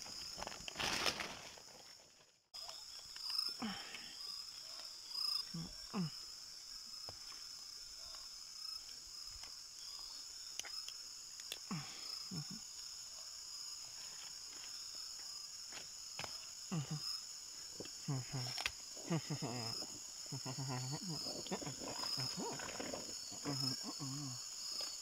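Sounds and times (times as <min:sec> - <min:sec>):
crickets and insects shrilling: 0:02.6 - 0:25.0.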